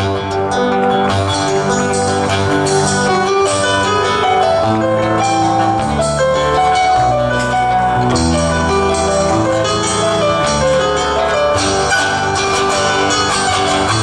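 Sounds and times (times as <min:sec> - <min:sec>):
acoustic guitars folk dance tune: 0:00.0 - 0:14.0.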